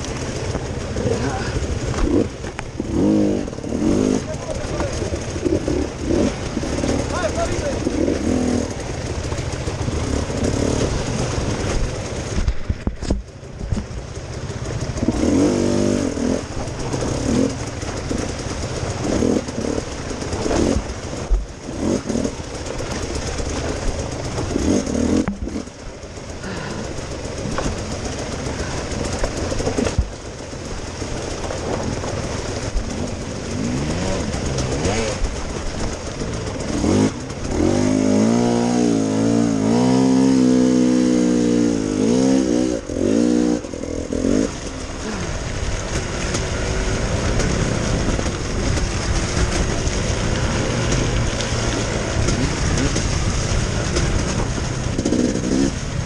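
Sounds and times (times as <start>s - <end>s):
dirt bike engine revving: 0.0s - 13.1s, 14.2s - 56.0s.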